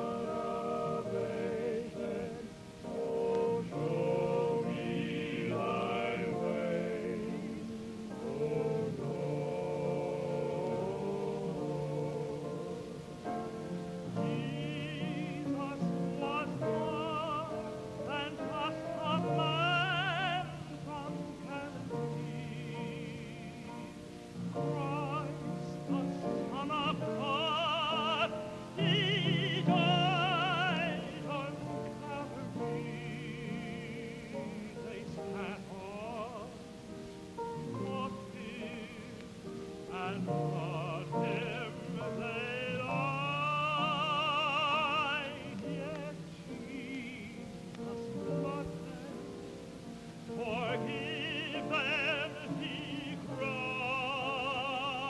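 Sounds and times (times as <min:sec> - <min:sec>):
gospel singing with vibrato: 0:00.0 - 0:55.0.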